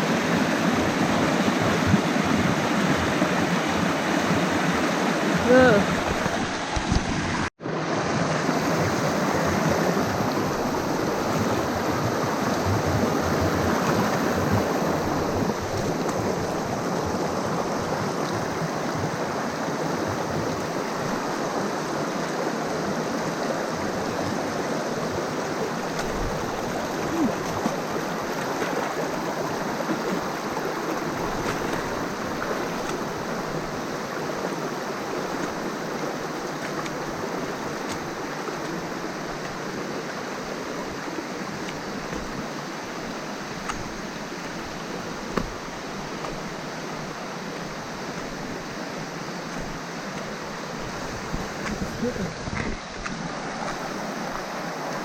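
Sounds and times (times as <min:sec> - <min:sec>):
fast-flowing river water: 0:00.0 - 0:55.0.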